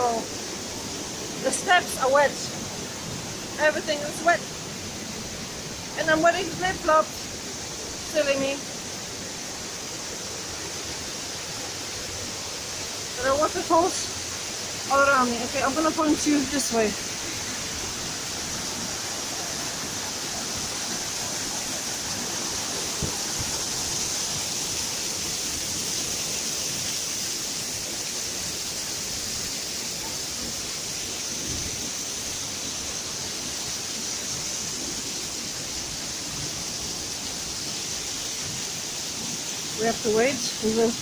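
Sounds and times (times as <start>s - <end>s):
waterfalls rushing: 0.0s - 41.0s.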